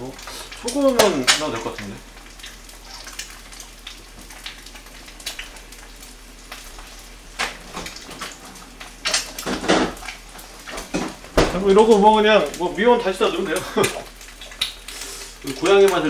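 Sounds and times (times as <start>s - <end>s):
stew bubbling in a pot: 0.0s - 16.0s.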